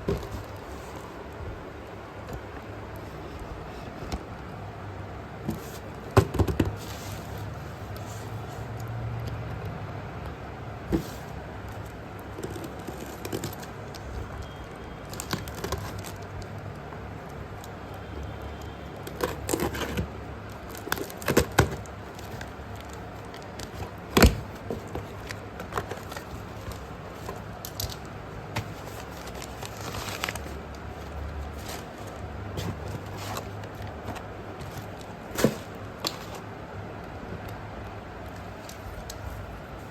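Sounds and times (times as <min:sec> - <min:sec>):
crackles and clicks of handling: 0:00.0 - 0:39.9.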